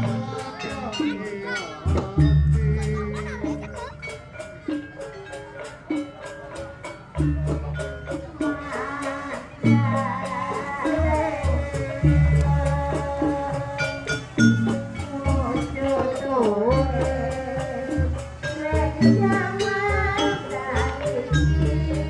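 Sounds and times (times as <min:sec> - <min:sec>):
metal mallet percussion: 0:00.0 - 0:22.0
wavering melodic line: 0:00.0 - 0:22.0.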